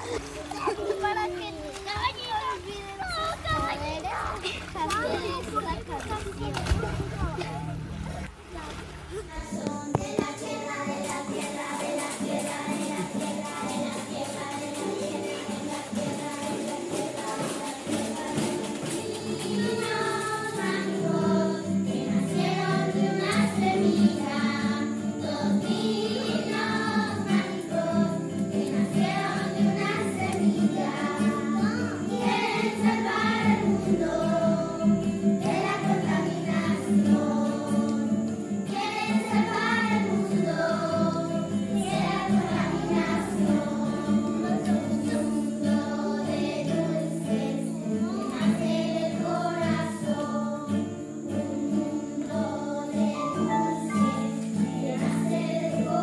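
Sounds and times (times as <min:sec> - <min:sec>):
acoustic guitar: 0:00.0 - 0:56.0
children singing in unison: 0:09.2 - 0:56.0.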